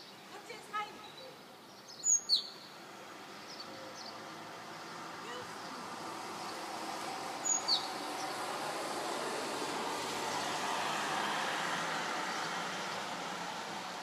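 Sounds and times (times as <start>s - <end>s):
van driving past: 2.7s - 14.0s.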